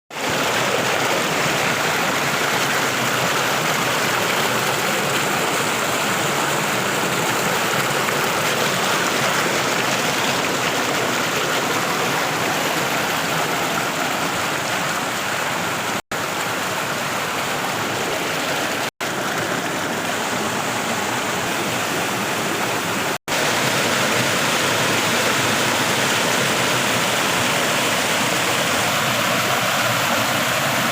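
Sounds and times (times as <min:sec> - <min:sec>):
stream water rushing: 0:00.1 - 0:30.9.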